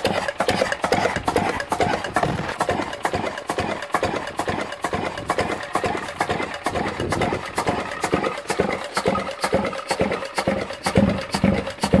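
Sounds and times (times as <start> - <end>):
diesel stationary engine knocking: 0.0 - 12.0.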